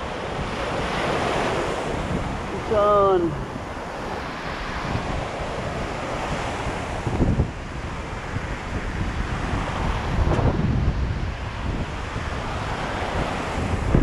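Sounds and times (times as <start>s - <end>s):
low wave rushes: 0.0s - 14.0s
surf washing up beach: 0.0s - 14.0s
wind buffeting microphone: 0.0s - 14.0s.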